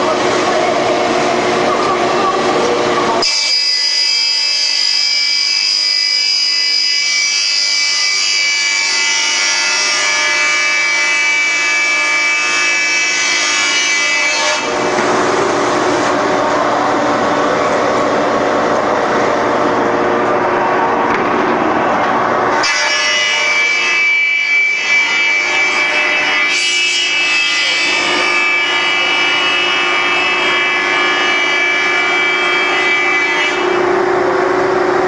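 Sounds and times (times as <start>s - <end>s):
high multi-tone whine: 0.0s - 31.0s
belt sander machine noise: 0.0s - 35.0s.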